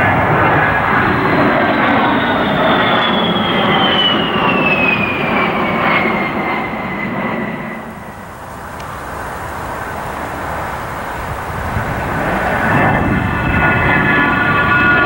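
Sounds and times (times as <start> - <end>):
jet engines passing overhead: 0.0 - 15.0.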